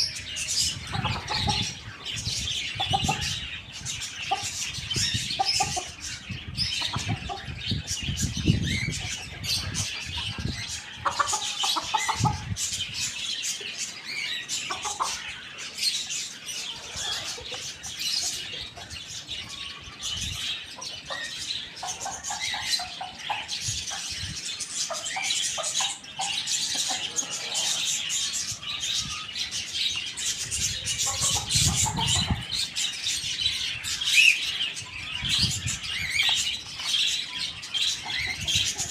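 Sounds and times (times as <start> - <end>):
chickens clucking: 0.0 - 38.9
small birds chirping: 0.0 - 38.9.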